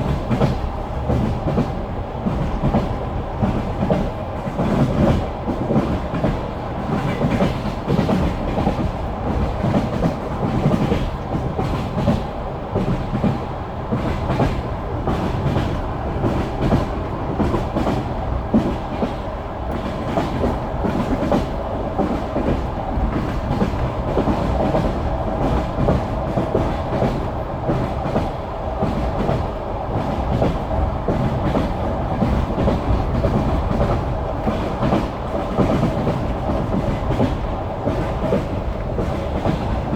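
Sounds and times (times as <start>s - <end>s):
steady train rumble: 0.0s - 39.9s.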